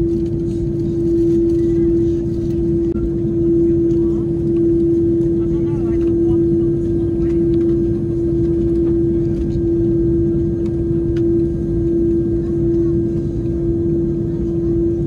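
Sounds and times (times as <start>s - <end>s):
airplane cabin drone: 0.0s - 15.0s.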